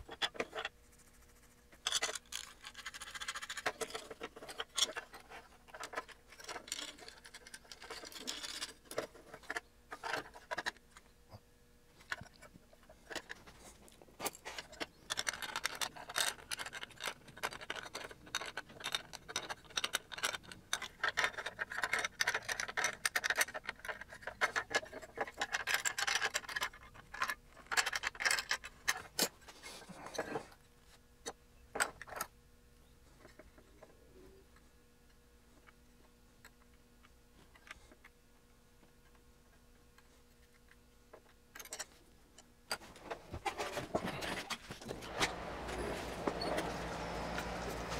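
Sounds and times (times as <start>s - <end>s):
handling clicks taps and scrapes: 0.0s - 32.3s, 33.0s - 47.9s.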